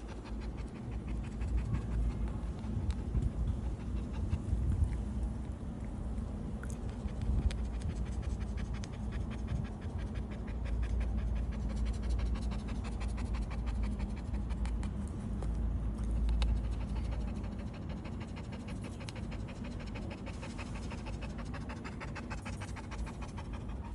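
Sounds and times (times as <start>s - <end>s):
dog panting: 0.0s - 5.5s, 6.8s - 23.9s
low rumble: 0.0s - 23.9s.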